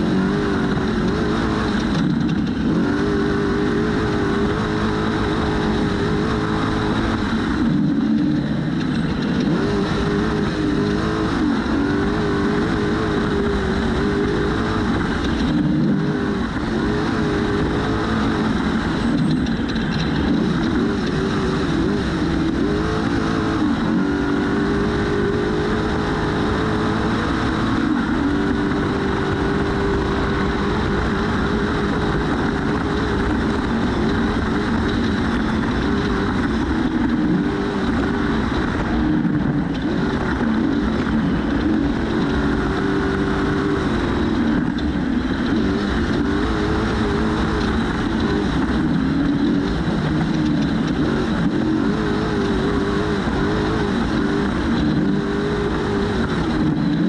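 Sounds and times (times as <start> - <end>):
race engine running hard: 0.0 - 57.0
rush of driving noise: 0.0 - 57.0.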